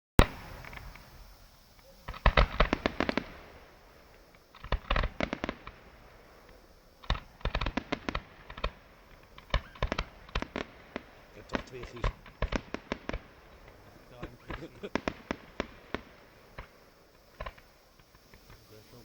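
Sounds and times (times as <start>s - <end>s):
fireworks bangs and crackles: 0.2s - 19.0s.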